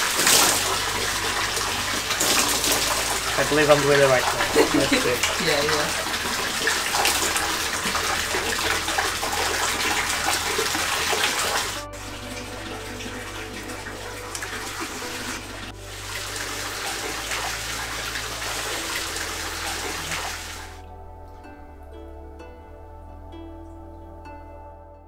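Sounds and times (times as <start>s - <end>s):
water poured over a person: 0.0s - 20.8s.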